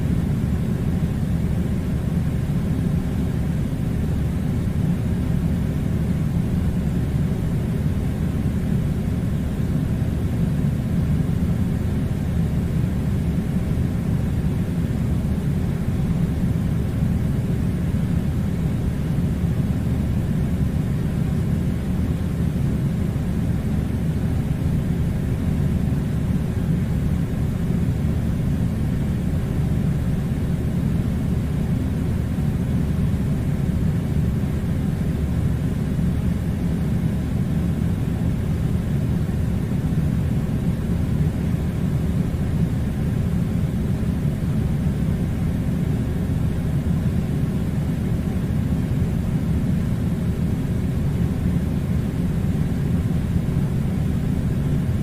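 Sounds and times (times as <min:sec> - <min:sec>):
air conditioner running: 0:00.0 - 0:55.0.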